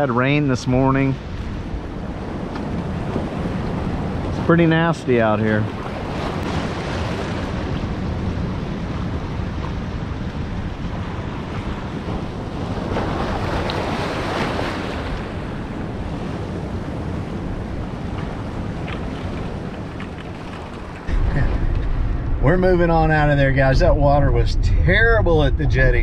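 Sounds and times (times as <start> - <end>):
sea waves washing against rocks: 0.0 - 25.9
gusting wind on microphone: 0.0 - 26.0.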